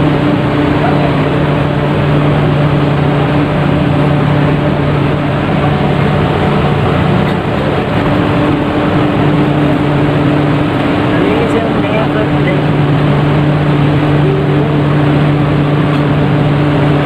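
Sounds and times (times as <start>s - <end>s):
rushing noise: 0.0s - 17.0s
ship engine droning: 0.0s - 17.0s.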